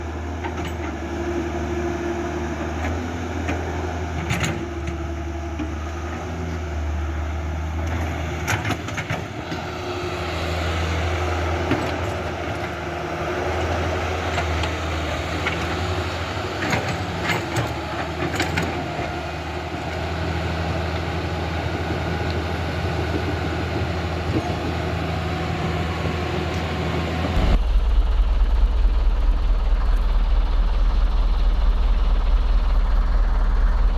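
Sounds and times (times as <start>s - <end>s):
machinery engine humming: 0.0s - 33.9s.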